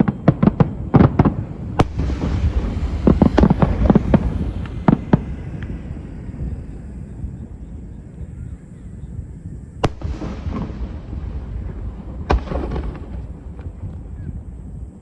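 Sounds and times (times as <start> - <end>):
fireworks crackling: 0.0 - 7.6, 9.8 - 14.8
fireworks bursting: 0.0 - 7.8, 9.8 - 14.7
steady low rumble: 0.0 - 15.0.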